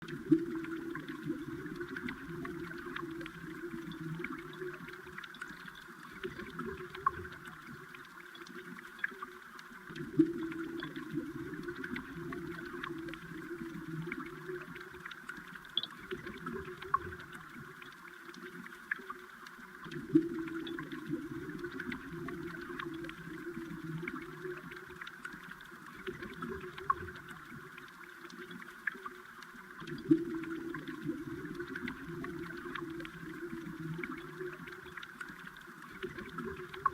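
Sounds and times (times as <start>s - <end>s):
small clicks and ticks: 0.0s - 36.9s
underwater stream bubbling: 0.0s - 36.9s.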